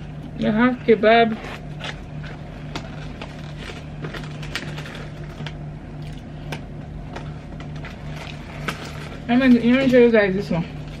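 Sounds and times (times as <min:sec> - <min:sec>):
plastic containers crinkling: 0:01.4 - 0:11.0.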